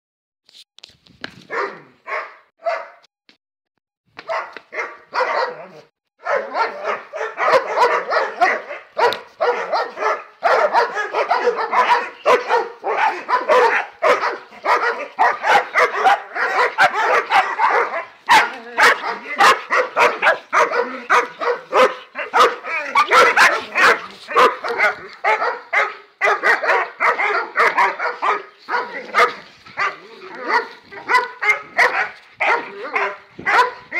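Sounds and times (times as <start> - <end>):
dogs barking: 1.5 - 3.0, 4.2 - 33.9.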